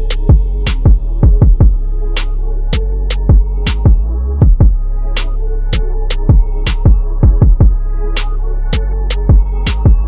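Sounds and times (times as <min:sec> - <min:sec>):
electronic music with beat: 0:00.0 - 0:10.0.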